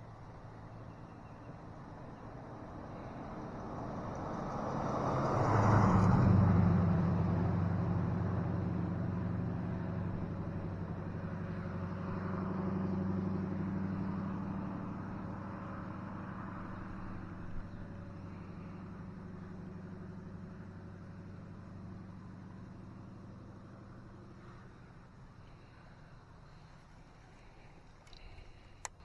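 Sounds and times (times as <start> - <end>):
vehicle driving past: 2.2 - 28.5.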